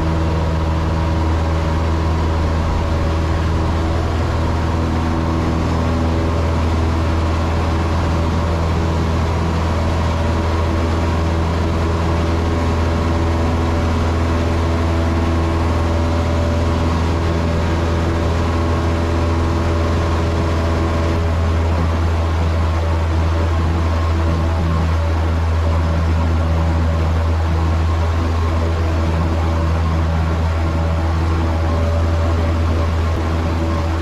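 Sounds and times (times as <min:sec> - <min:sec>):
airplane engine and propeller drone: 0:00.0 - 0:34.0.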